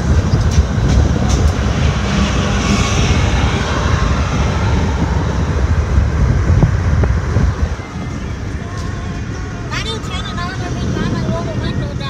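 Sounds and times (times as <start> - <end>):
car driving rumble: 0.0 - 12.0
road and wind noise: 0.0 - 12.0.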